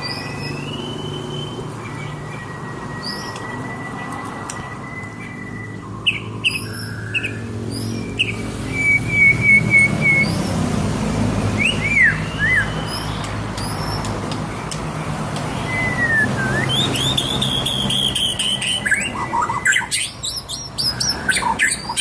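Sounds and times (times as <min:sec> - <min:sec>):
bird singing whistles and chirps: 0:00.0 - 0:10.6, 0:11.5 - 0:14.2, 0:15.5 - 0:22.0.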